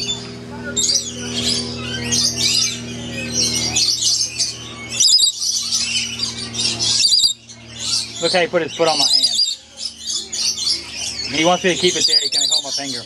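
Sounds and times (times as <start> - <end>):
parrots chattering and screeching: 0.0 - 13.0
steady low hum: 0.0 - 13.0.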